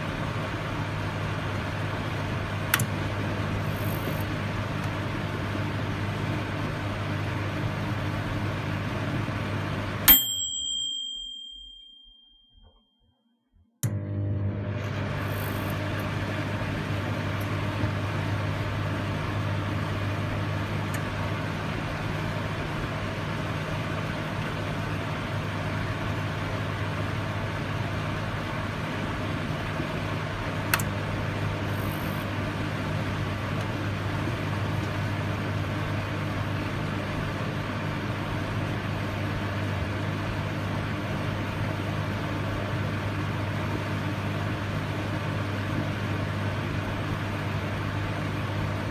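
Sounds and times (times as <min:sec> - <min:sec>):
microwave oven humming: 0:00.0 - 0:12.2, 0:13.8 - 0:48.9.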